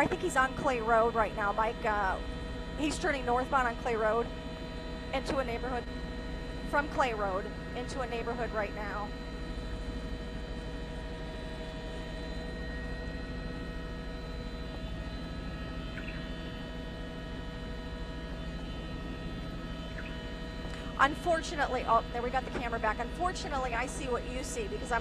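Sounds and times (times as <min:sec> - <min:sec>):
helicopter engine and rotors droning: 0:00.0 - 0:25.0.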